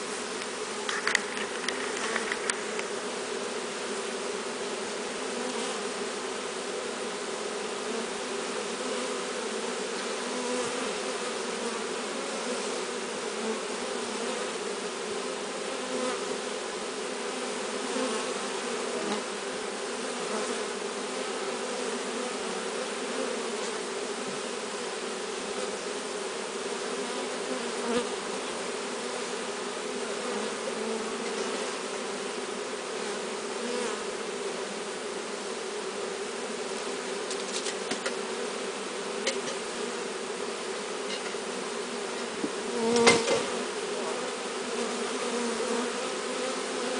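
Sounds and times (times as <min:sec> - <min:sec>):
bees buzzing: 0:00.0 - 0:46.9.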